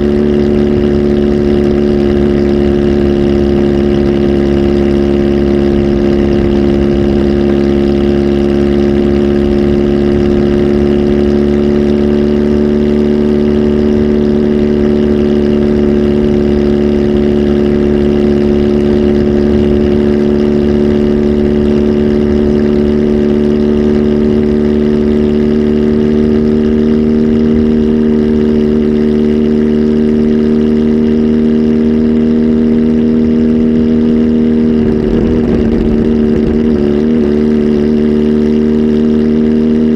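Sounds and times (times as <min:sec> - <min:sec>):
motorcycle engine running at held revs: 0:00.0 - 0:39.9.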